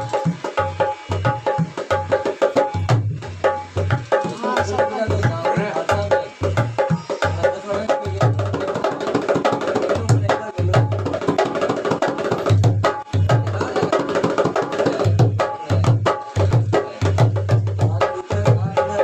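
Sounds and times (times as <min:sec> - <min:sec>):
hand drum played quickly: 0:00.0 - 0:19.0.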